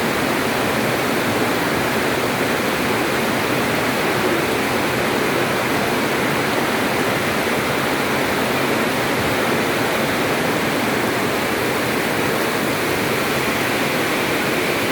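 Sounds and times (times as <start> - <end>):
rain pouring: 0.0 - 14.9.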